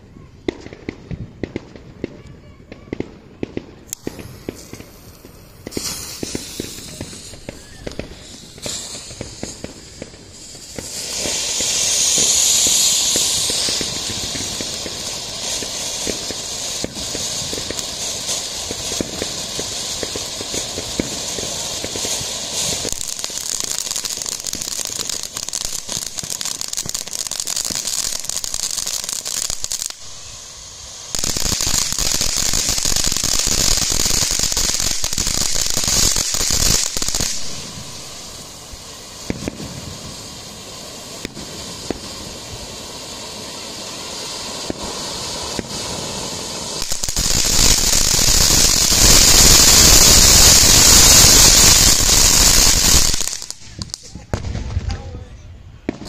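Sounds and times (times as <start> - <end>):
firework fountain hissing and crackling: 0.0 - 56.0.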